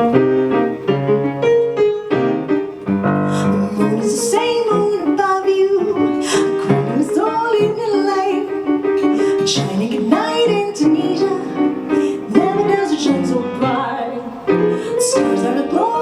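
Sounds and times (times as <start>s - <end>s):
jazz band with piano: 0.0s - 16.0s.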